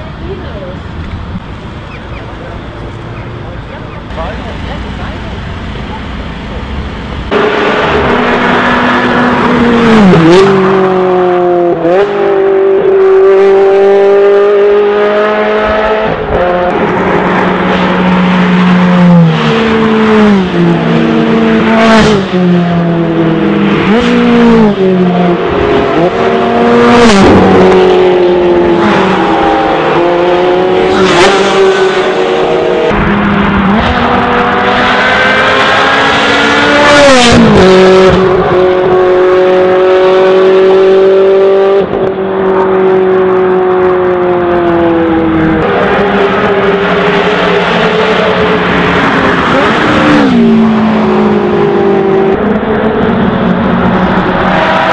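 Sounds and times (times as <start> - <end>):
car engines accelerating hard: 0.0 - 54.9.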